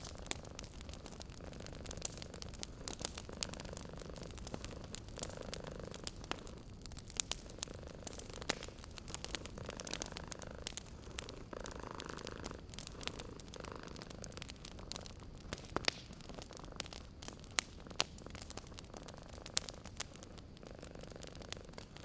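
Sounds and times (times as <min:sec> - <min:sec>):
cat purring: 0:00.0 - 0:22.0
wood fire crackling: 0:00.0 - 0:22.0.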